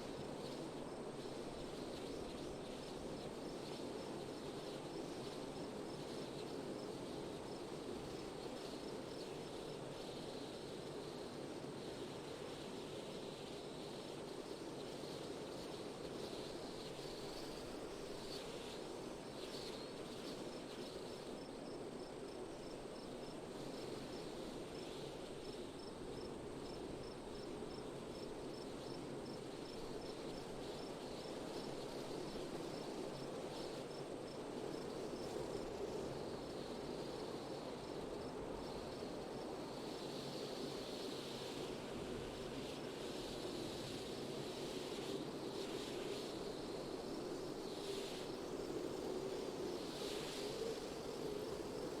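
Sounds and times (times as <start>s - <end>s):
cricket chirping faintly: 0.0s - 52.0s.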